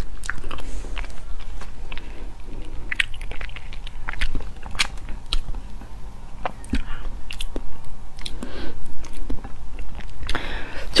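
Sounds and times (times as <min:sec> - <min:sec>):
wet chewing with smacks: 0:00.0 - 0:10.4.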